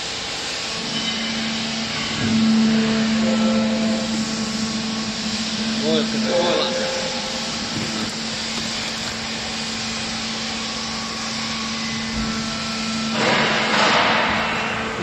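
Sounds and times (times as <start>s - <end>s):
loud rushing hiss: 0.0s - 13.9s
baler motor humming: 0.7s - 13.2s.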